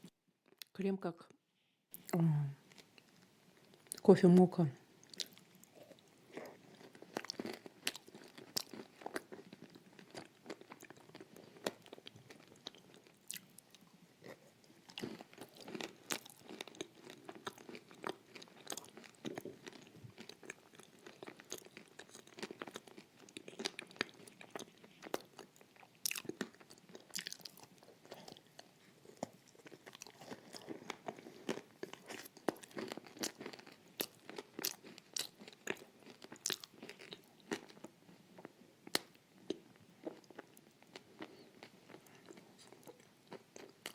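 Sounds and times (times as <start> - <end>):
wet chewing: 5.0 - 43.9.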